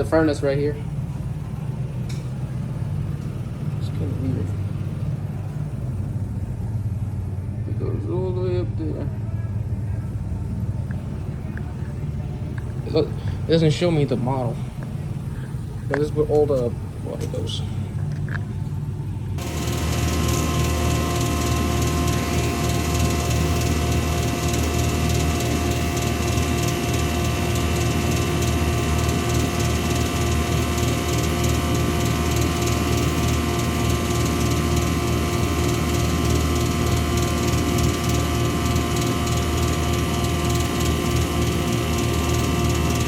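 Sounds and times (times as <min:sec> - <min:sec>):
air conditioner humming: 0:00.0 - 0:43.0.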